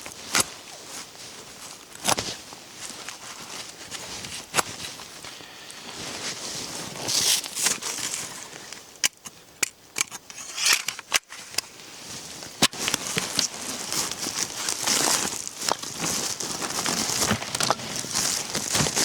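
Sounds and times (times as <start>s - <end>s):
crinkling handling noise: 0.0s - 19.0s.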